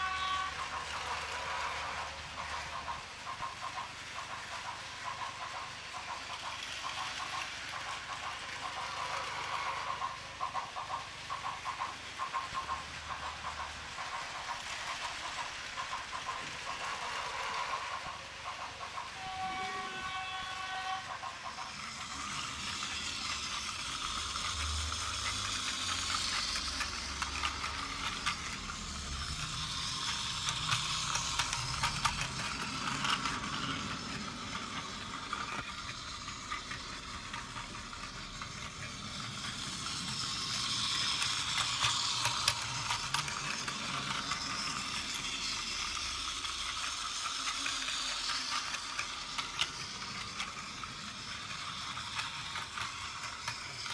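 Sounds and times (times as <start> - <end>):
toy train motor buzzing: 0.0 - 53.9
wheels clicking over track joints: 0.0 - 53.9.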